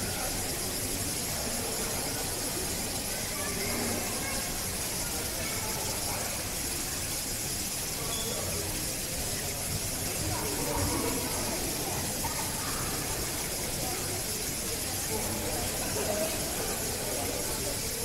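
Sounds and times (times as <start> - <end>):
people talking indistinctly: 0.0 - 18.0
steady hiss: 0.0 - 18.0.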